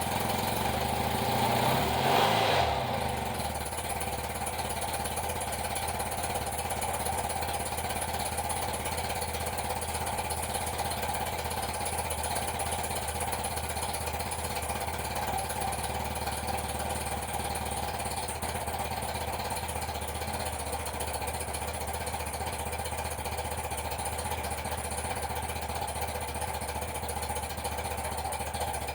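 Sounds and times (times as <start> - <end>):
motorcycle engine idling: 0.0 - 28.9.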